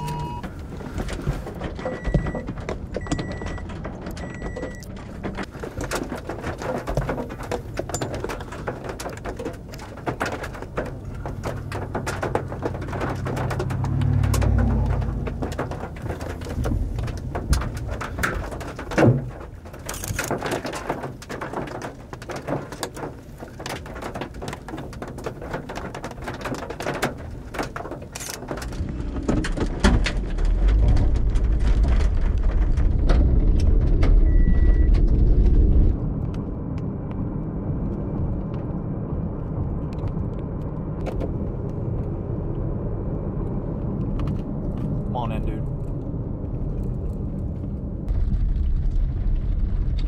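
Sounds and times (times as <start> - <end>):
low wind rumble: 0.0 - 50.0
vehicle road noise: 0.0 - 50.0.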